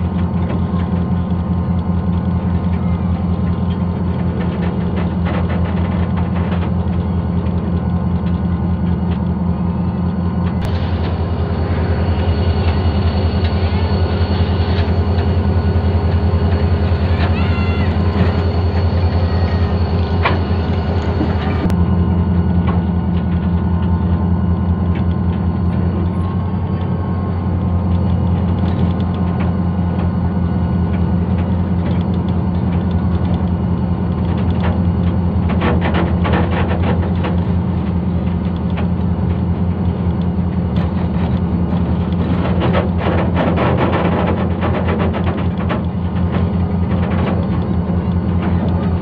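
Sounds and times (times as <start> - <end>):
diesel locomotive engine hum: 0.0 - 49.0
train clicking and rattling: 0.0 - 49.0.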